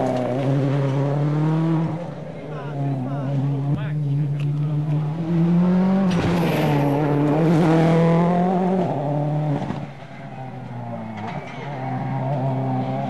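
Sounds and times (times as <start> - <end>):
rally car engine passing at speed: 0.0 - 13.0.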